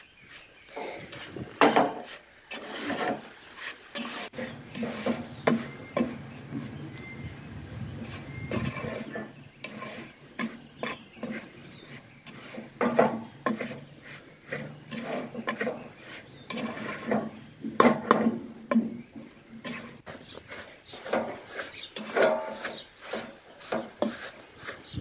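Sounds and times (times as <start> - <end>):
wooden spatula scraping a metal pot: 0.0 - 25.0.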